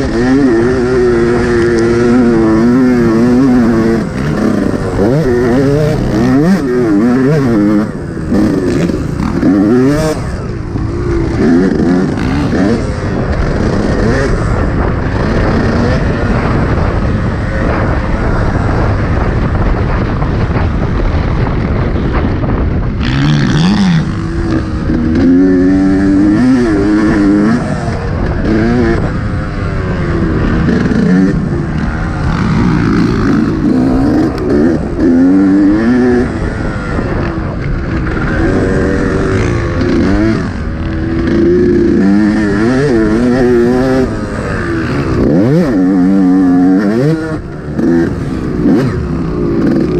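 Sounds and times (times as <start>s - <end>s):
motocross engine revving: 0.0s - 20.4s, 21.8s - 49.9s
wind rumble: 0.0s - 49.9s.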